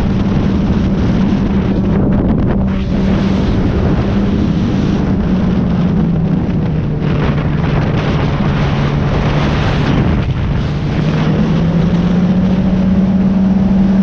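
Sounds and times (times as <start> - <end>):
motorcycle engine running hard: 0.0 - 14.0
wind rush on microphone: 0.0 - 14.0.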